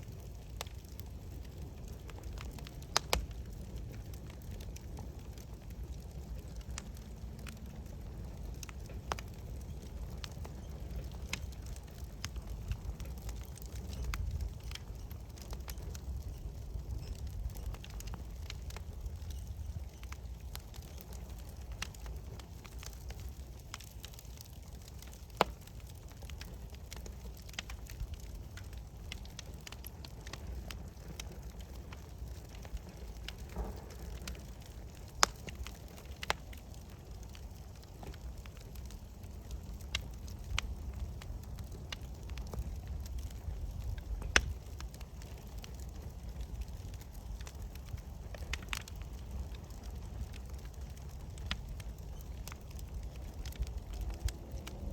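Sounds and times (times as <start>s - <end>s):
burning wood popping: 0.0s - 54.9s
campfire crackling: 0.0s - 54.9s.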